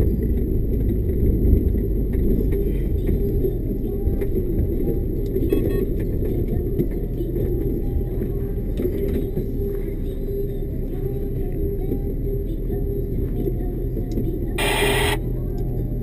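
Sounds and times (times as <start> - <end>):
lorry engine and road rumble: 0.0 - 16.0.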